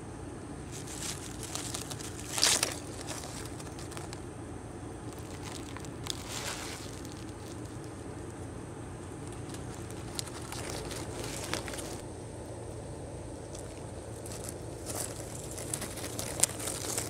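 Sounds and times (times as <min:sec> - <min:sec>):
rabbit chewing leaves: 0:00.0 - 0:17.0
leaves rustling: 0:00.6 - 0:17.0.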